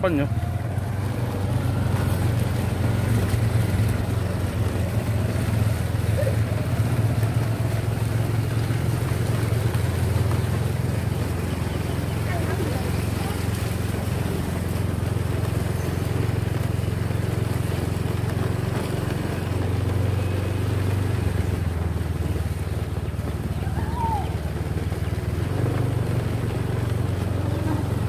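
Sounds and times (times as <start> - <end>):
small motorcycle engine running: 0.0 - 28.0.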